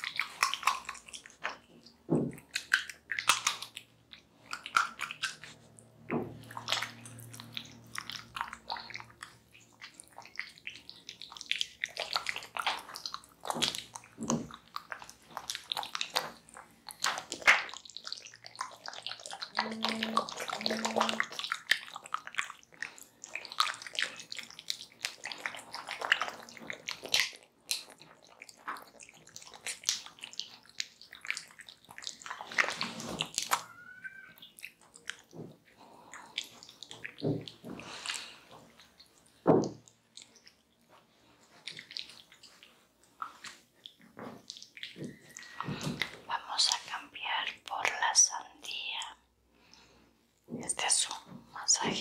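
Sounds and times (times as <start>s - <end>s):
squelching and rubbing of wet pulp: 0.0s - 48.1s, 50.5s - 52.0s.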